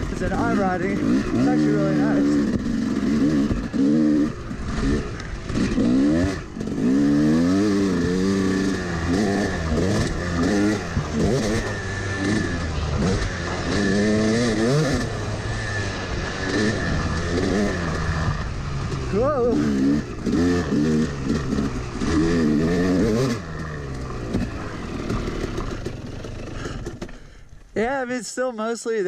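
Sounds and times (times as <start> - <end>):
dirt bike engine revving: 0.0 - 28.2.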